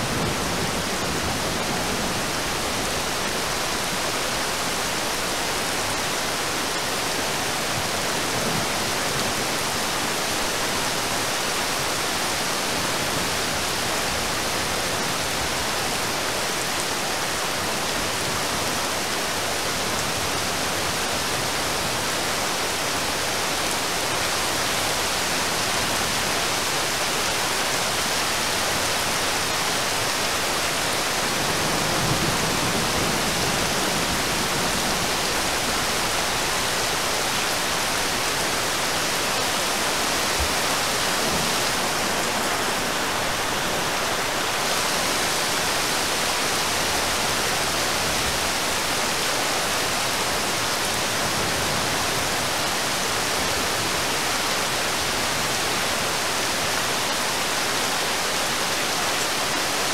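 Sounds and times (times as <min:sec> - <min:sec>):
heavy rain on a river: 0:00.0 - 0:59.9.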